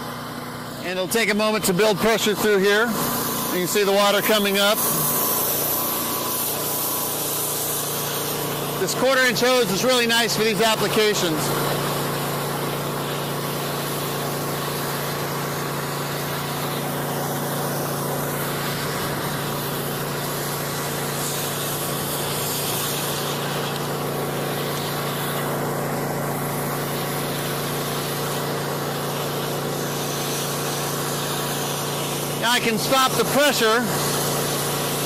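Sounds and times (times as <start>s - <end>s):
high-pressure water hissing: 0.7s - 35.0s.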